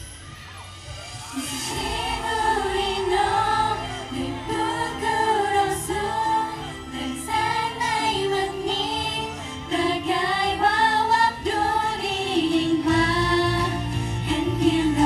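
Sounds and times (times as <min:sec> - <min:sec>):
women singing in unison: 0:01.4 - 0:15.0.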